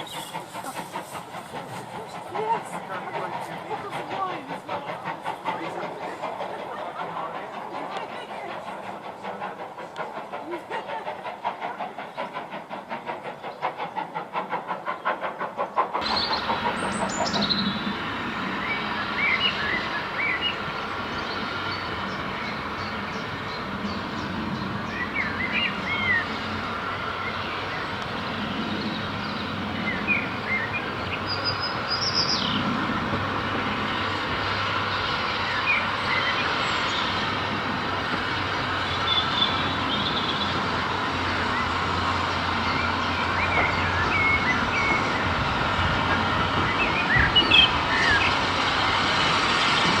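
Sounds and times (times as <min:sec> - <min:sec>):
birds singing: 0:00.0 - 0:05.3, 0:14.8 - 0:50.0
steam train passing: 0:00.0 - 0:50.0.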